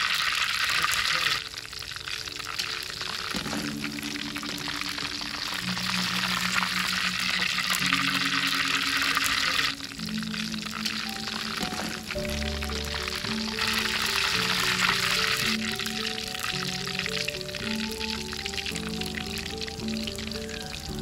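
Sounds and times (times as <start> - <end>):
oil sizzling in a wok: 0.0 - 21.0
soft background music: 0.0 - 21.0.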